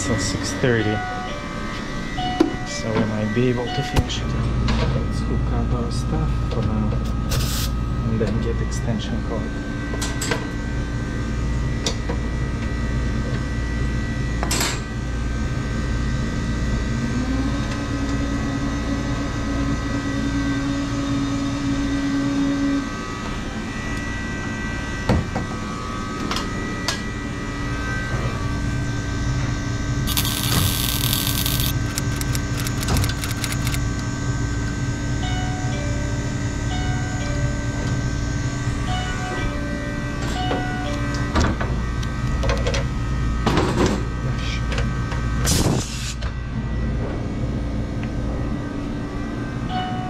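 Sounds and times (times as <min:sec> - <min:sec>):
refrigeration machinery hum: 0:00.0 - 0:43.6.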